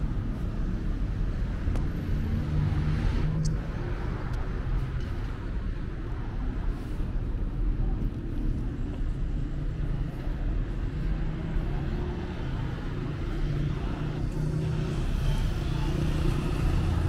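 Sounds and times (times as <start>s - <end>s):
cars rumbling along road: 0.0s - 17.0s.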